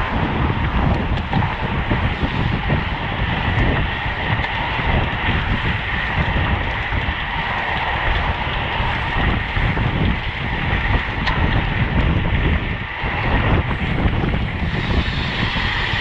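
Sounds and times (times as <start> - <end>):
tyre and road noise: 0.0 - 16.0
wind rushing over microphone: 0.0 - 16.0.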